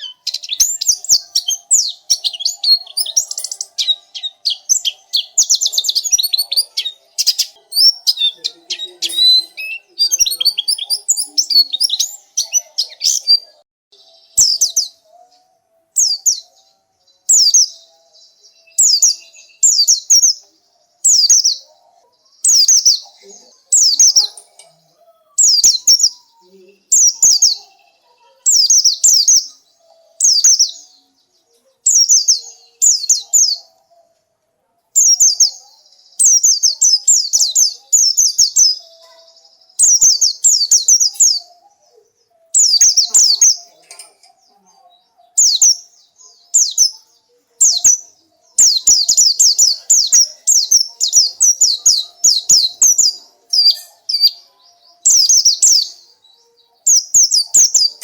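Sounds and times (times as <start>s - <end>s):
bird singing high chirps: 0.0s - 34.2s, 34.9s - 58.0s.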